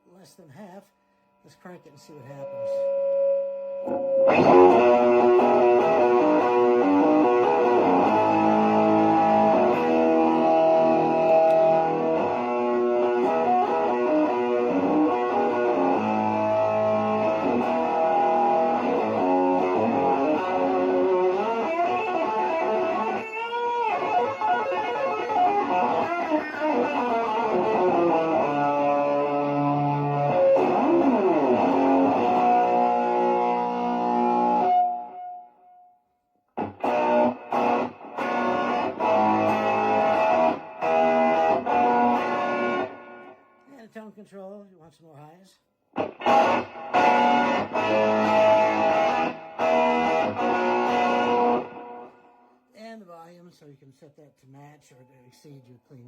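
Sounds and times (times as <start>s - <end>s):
distorted electric guitar: 2.3s - 35.6s, 36.6s - 43.6s, 45.9s - 52.5s.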